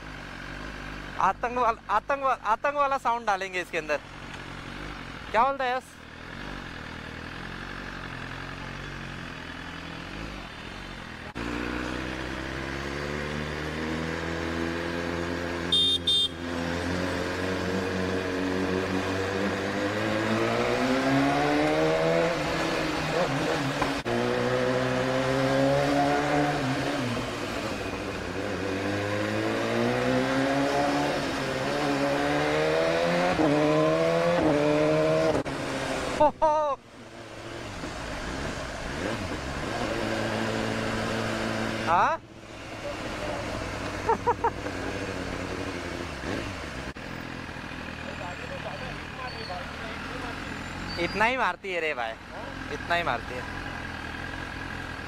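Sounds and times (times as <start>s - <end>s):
motorcycle engine revving: 4.3s - 36.4s, 37.0s - 55.0s.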